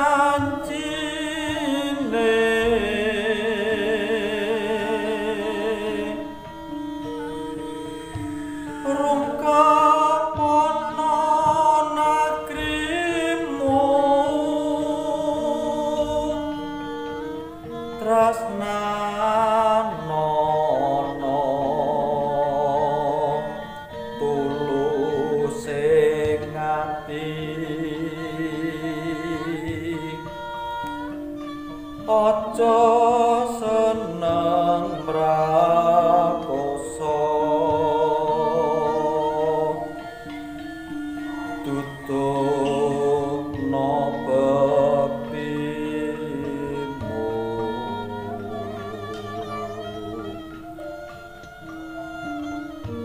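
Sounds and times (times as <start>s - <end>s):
held instrumental notes: 0.0s - 53.0s
man singing: 0.0s - 53.0s.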